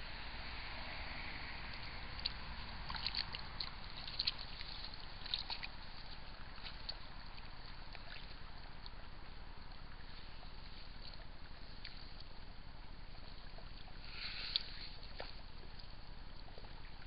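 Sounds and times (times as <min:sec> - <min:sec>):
faint hiss: 0:00.0 - 0:17.0
small water splashes and clicks: 0:01.2 - 0:17.0.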